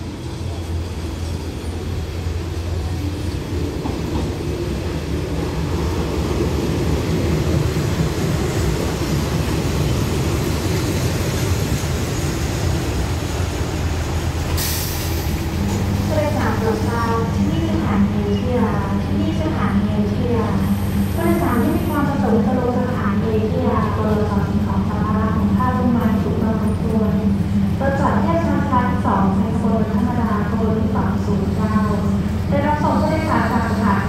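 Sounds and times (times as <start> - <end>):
diesel train engines rumbling: 0.0 - 34.0.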